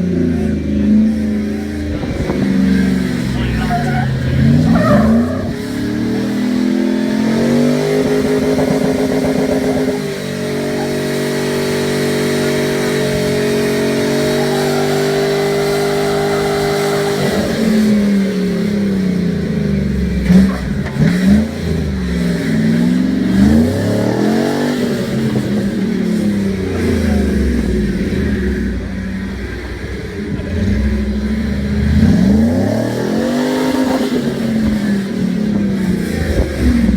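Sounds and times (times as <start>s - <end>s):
pickup engine revving: 0.0s - 36.9s.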